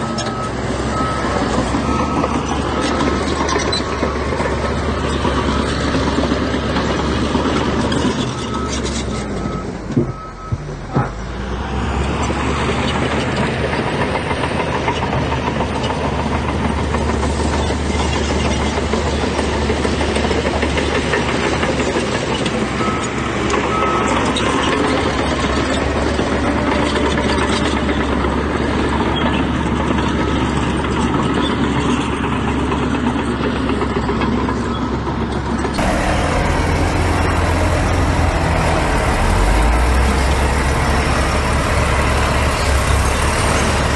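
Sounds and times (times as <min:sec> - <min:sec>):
diesel machinery engine drone: 0:00.0 - 0:43.9.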